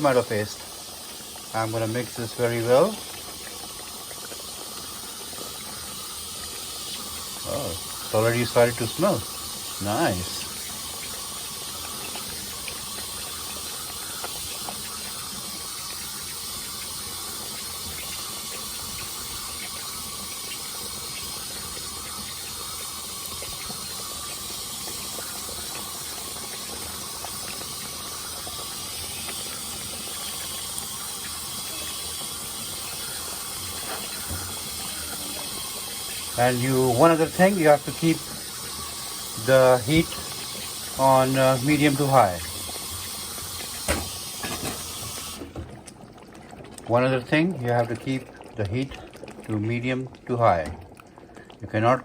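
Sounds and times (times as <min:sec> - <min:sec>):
chicken sizzling in hot oil: 0:00.0 - 0:51.6.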